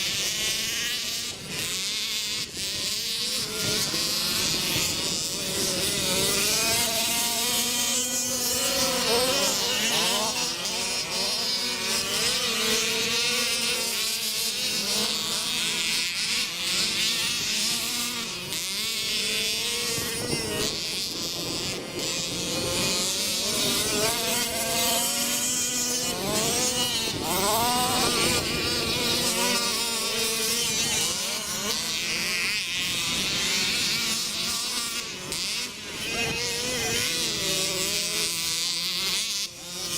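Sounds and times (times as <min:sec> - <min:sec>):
off-road vehicle engines revving: 0:00.0 - 0:39.9.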